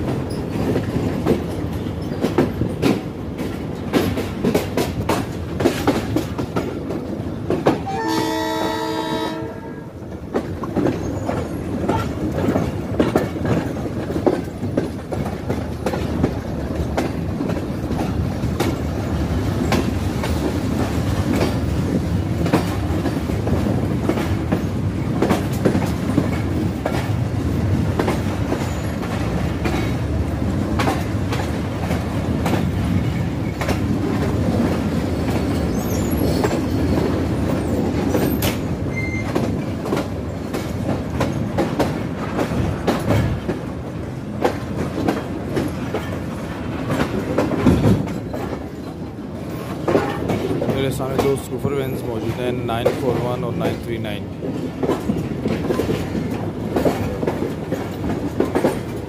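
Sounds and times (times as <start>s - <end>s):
train wheels clacking over rail joints: 0.0s - 59.0s.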